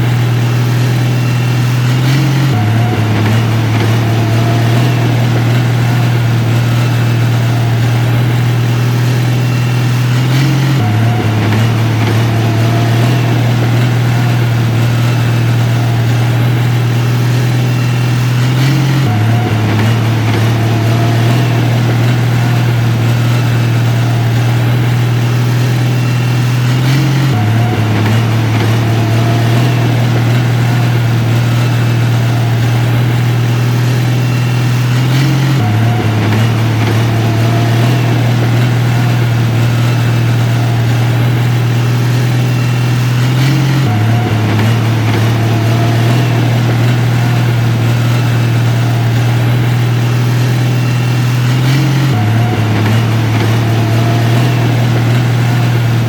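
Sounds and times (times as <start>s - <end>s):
heavy machine engine droning: 0.0s - 56.0s.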